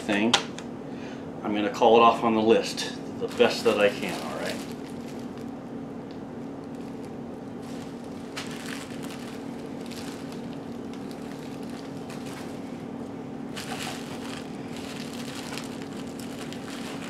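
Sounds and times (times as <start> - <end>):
steady low hum: 0.0 - 17.0
bubble wrap rustling: 3.2 - 17.0.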